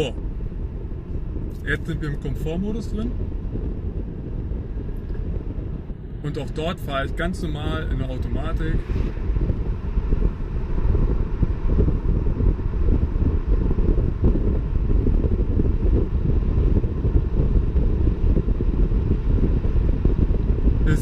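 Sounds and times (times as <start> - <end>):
car engine low rumble: 0.0 - 21.0
wind buffeting microphone: 0.0 - 21.0.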